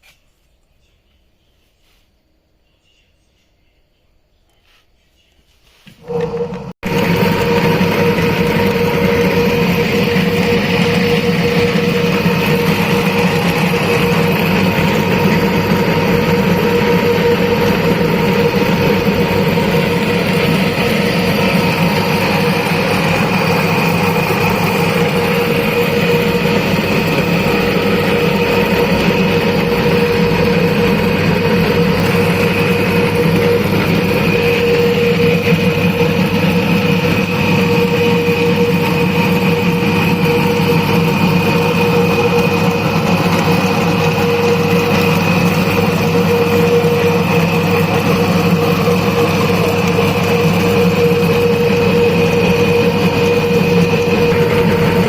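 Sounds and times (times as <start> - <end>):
motor humming with whine: 5.9 - 55.0.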